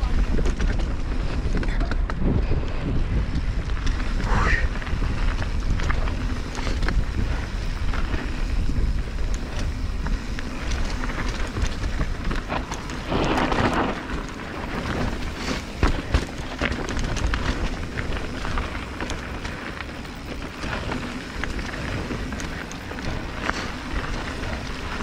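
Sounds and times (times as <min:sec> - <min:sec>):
bike rattling: 0:00.0 - 0:25.0
tyres rumbling on dirt: 0:00.0 - 0:25.0
wind buffeting microphone: 0:00.0 - 0:25.0.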